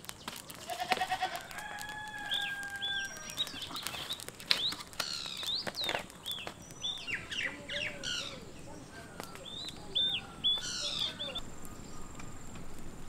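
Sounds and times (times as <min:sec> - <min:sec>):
birds chirping: 0:00.0 - 0:13.0
wood fire crackling: 0:00.0 - 0:13.0
downward-sweeping bird calls: 0:00.7 - 0:13.0.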